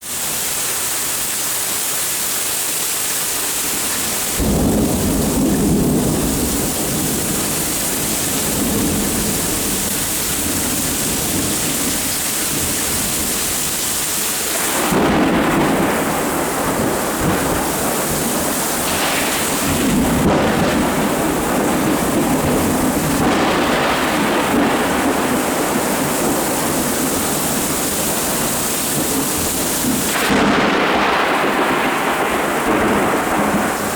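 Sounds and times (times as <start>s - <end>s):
steady rain: 0.0s - 33.9s
rolling thunder: 4.2s - 33.9s.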